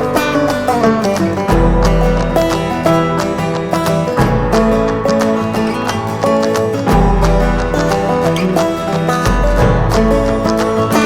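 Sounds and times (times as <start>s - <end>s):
plucked string music with beat: 0.0s - 11.0s.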